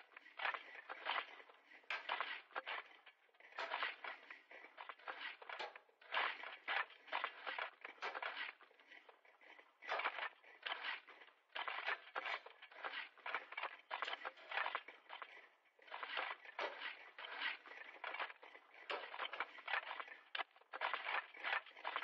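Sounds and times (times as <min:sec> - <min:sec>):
shovels scraping into ground: 0:00.2 - 0:22.0.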